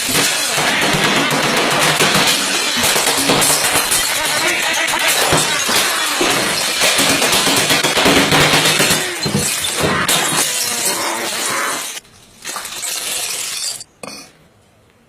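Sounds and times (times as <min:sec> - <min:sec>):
harsh crashing and crunching: 0:00.0 - 0:13.9.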